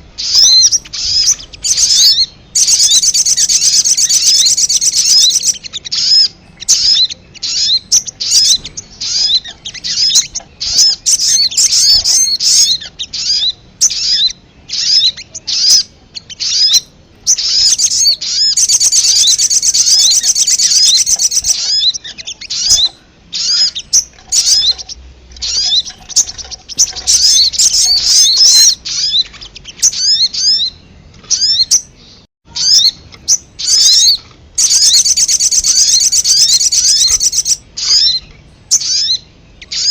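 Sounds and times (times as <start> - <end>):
rapid high-pitched bird chirping: 0.0 - 39.9.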